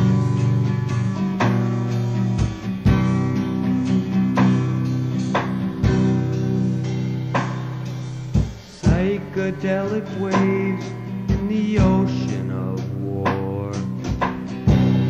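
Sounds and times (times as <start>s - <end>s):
strummed guitar chords from cassette: 0.0s - 15.0s.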